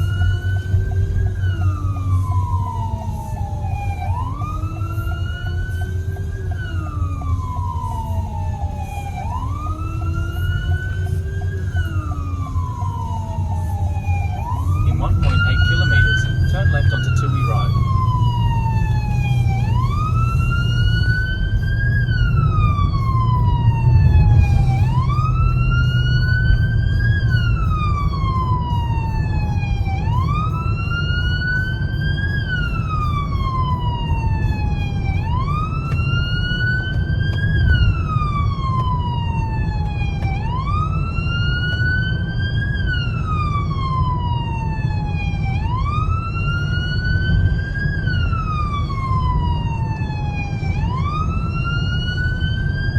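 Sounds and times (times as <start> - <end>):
emergency siren wailing: 0.0 - 52.9
low rumble of moving vehicle: 0.0 - 52.9.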